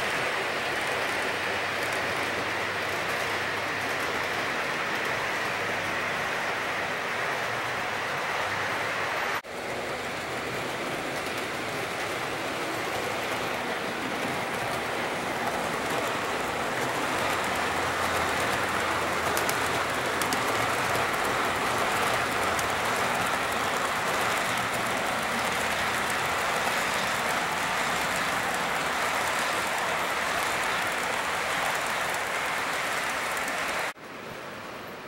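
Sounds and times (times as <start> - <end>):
model train wheels on rails: 0.0 - 35.0.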